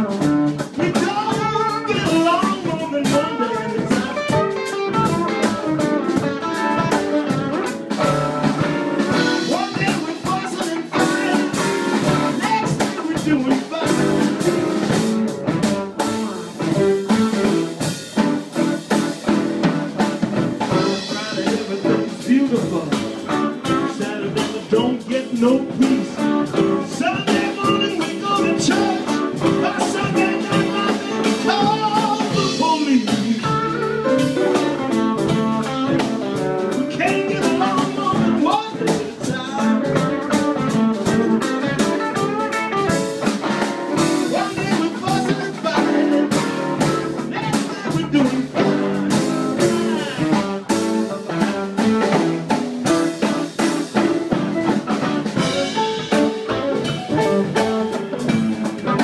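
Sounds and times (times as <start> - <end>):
electric guitar: 0.0 - 59.0
grand piano: 0.0 - 59.0
upright bass: 0.0 - 59.0.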